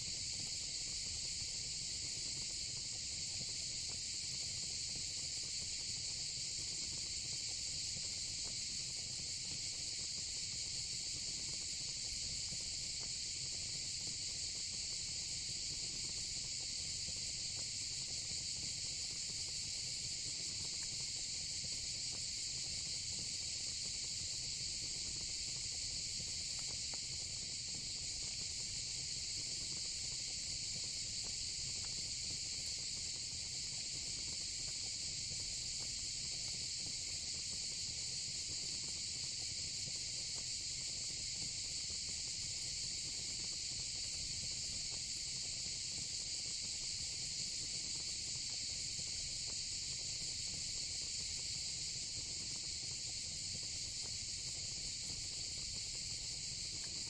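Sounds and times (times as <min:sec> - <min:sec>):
crickets and cicadas chirping: 0:00.2 - 0:57.0.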